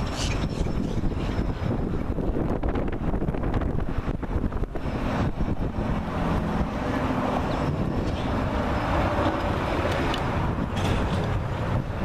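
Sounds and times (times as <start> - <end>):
distant engine noise: 0.0 - 12.0
wind buffeting microphone: 0.0 - 12.0.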